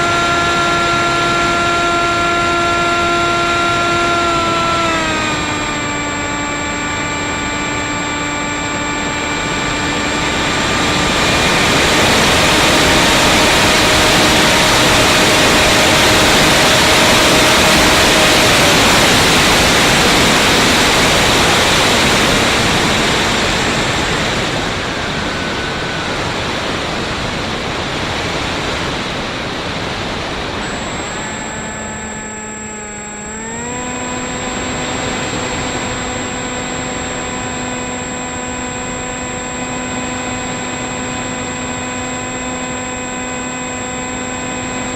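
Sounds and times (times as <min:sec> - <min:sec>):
electric motor propeller whine: 0:00.0 - 0:44.9.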